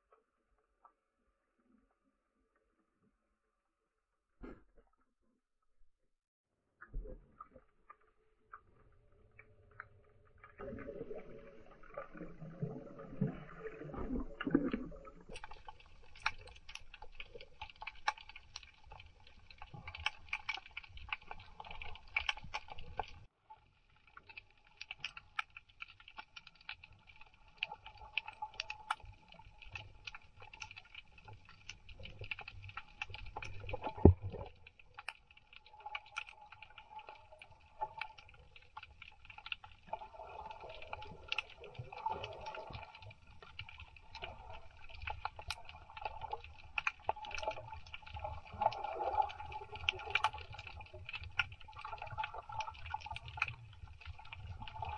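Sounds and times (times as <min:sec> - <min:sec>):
low rumbling water: 0:00.0 - 0:54.9
crackle of tiny clicks: 0:06.8 - 0:54.9.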